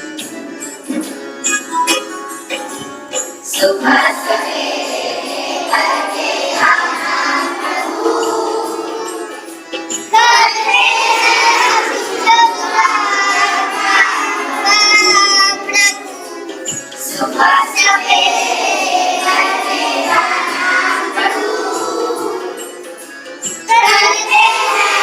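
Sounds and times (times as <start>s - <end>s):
instrumental music: 0.0s - 25.0s
children singing: 2.5s - 25.0s.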